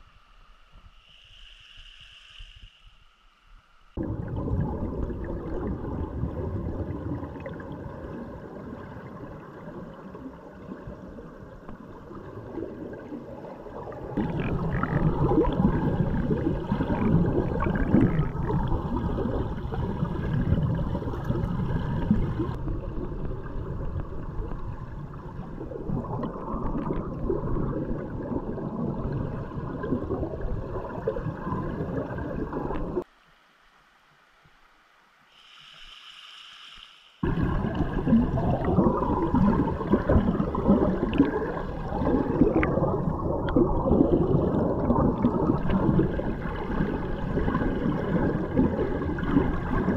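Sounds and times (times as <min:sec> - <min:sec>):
underwater rushing river water: 0:03.9 - 0:33.1, 0:37.2 - 0:49.9.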